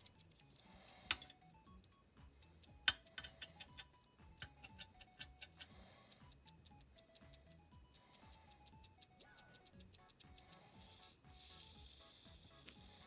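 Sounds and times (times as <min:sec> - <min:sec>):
clock ticking: 0:00.0 - 0:13.0
faint music: 0:00.0 - 0:13.0.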